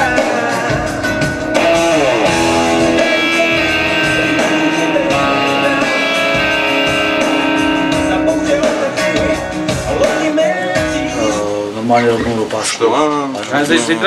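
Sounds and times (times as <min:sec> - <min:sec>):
electric guitar ringing chords: 0:00.0 - 0:12.2.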